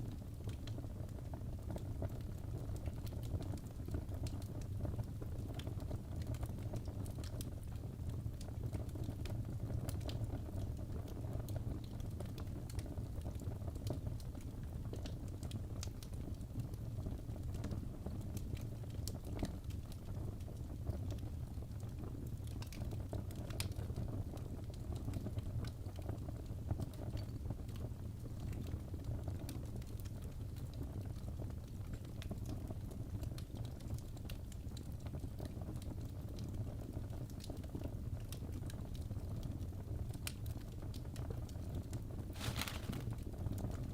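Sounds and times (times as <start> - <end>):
log fire burning: 0.0 - 43.9
low rumble of flames: 0.0 - 43.9
wood crackling and popping: 0.1 - 43.9.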